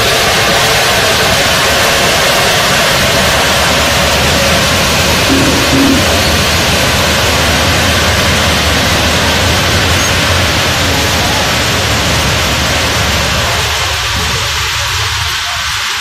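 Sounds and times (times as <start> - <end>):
moving train low rumble: 0.0 - 16.0.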